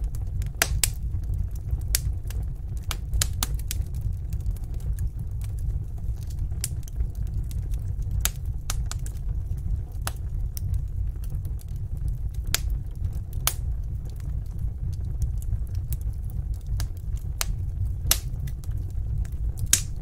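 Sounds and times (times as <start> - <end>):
fire low rumble: 0.0 - 20.0
wood fire crackling and popping: 0.0 - 20.0.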